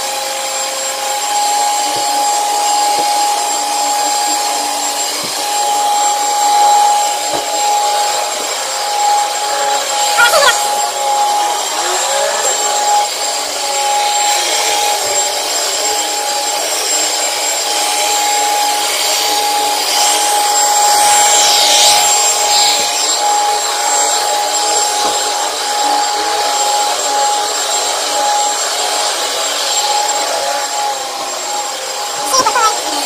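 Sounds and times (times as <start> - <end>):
vacuum cleaner running on carpet: 0.0 - 33.0.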